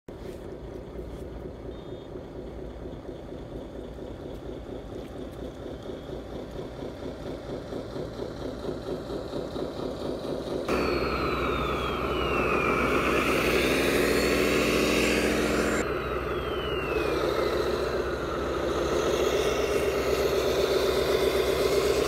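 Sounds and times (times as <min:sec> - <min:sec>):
model truck engine idling: 0:00.1 - 0:22.0.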